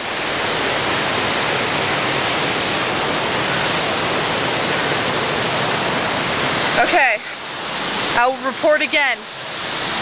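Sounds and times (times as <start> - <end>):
fast-flowing water rushing: 0.0 - 10.0.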